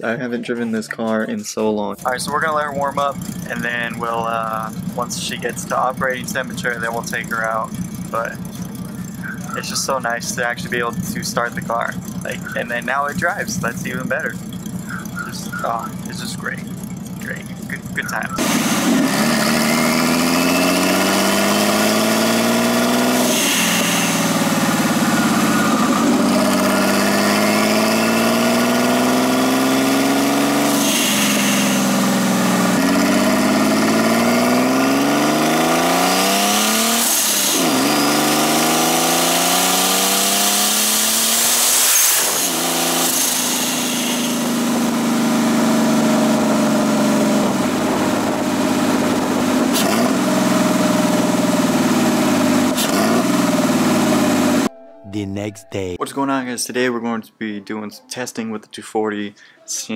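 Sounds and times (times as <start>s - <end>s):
turbocharged car engine revving: 1.8s - 55.8s.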